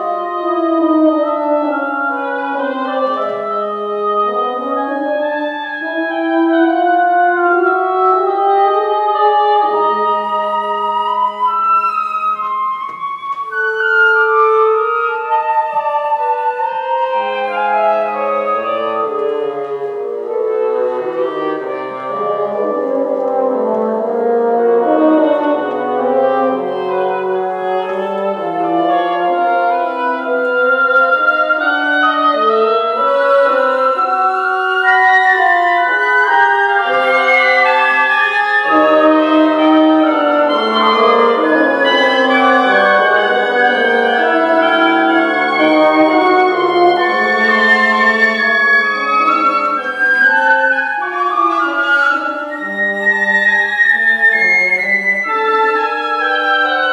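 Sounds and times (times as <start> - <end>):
woodwind quintet playing: 0.0 - 56.9.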